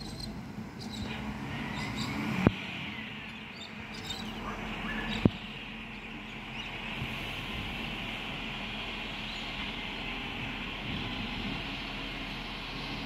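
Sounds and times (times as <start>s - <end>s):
birds chirping: 0.0s - 11.2s
distant truck engine hum: 0.0s - 13.0s.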